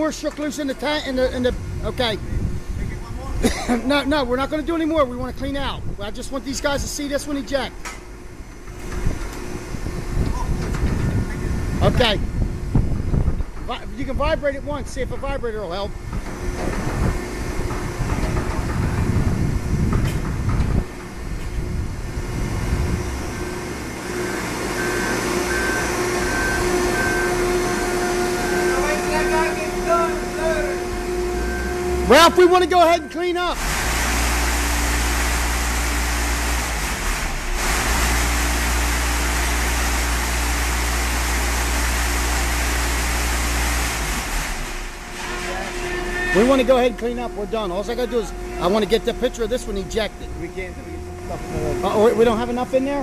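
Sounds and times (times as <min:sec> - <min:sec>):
steady machine hum: 0:00.0 - 0:53.0
vibrator heavy low rumble: 0:00.0 - 0:53.0.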